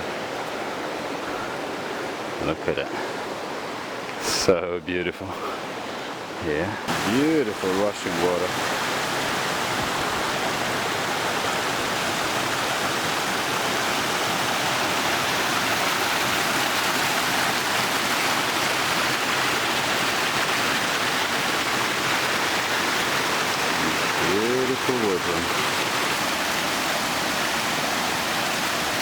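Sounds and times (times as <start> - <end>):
waterfall and rushing stream: 0.0 - 29.0.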